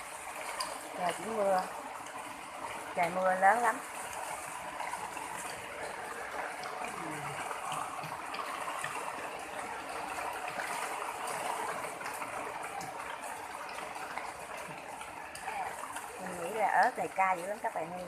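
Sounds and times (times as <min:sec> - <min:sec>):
heavy rain hiss: 0:00.0 - 0:17.7
ticks of raindrops: 0:00.0 - 0:18.0.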